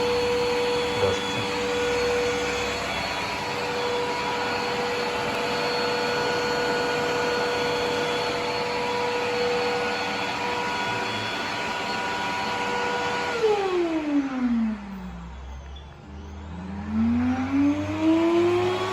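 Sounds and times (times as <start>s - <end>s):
vacuum cleaner motor whine: 0.0s - 18.9s.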